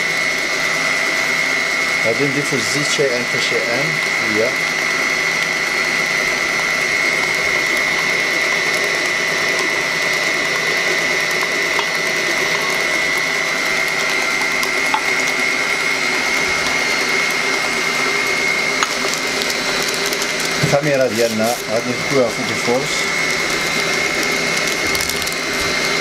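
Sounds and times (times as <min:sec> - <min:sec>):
beater whipping batter in metal bowl: 0:00.0 - 0:26.0
electric stand mixer whining: 0:00.0 - 0:26.0.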